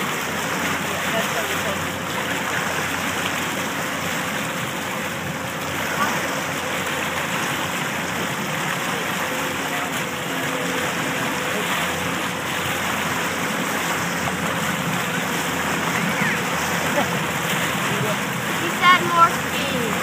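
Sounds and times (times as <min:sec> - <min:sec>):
churning wake water: 0:00.0 - 0:20.0
low boat engine hum: 0:00.0 - 0:20.0.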